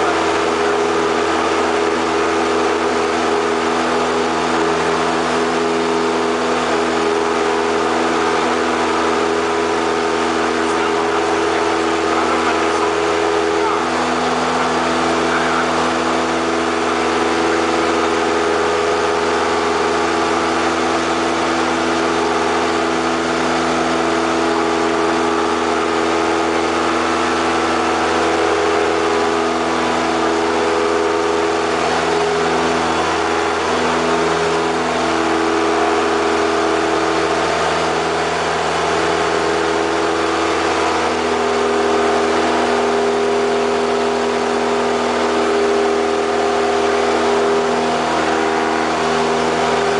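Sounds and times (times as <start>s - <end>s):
propeller airplane engine drone: 0.0s - 49.9s.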